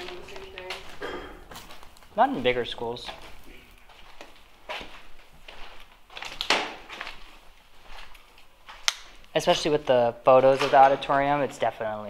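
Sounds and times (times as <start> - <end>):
footsteps crunching on debris: 0.0 - 11.9.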